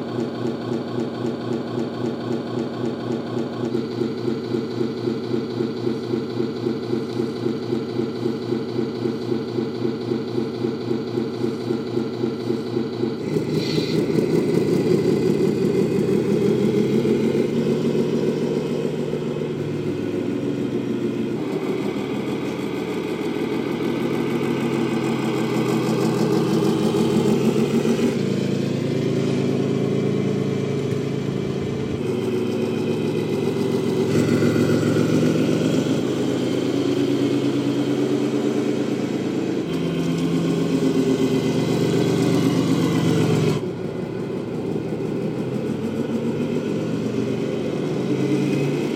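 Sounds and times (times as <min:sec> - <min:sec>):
simulated diesel truck engine: 0:00.0 - 0:48.9.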